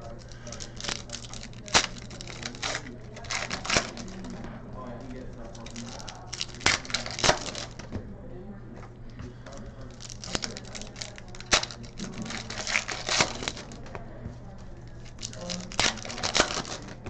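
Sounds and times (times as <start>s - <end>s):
plastic wrappers tearing and crinkling: 0.0s - 7.9s, 9.5s - 14.0s, 14.8s - 17.0s.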